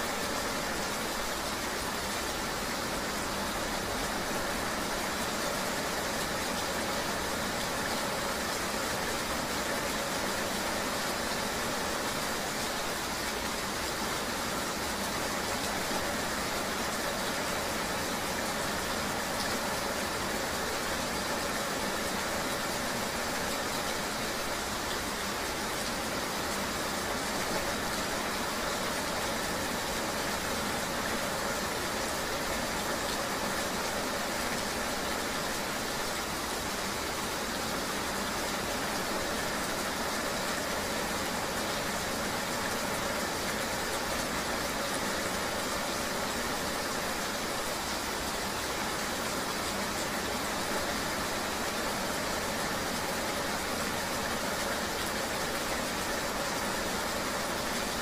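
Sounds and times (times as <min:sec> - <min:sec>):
rain: 0:00.0 - 0:58.0.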